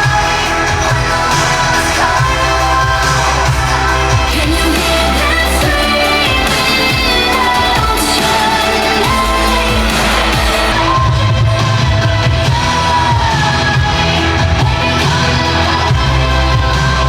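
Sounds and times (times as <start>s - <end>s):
heavy bass line: 0.0s - 17.0s
pop song with sung vocals: 0.0s - 17.0s.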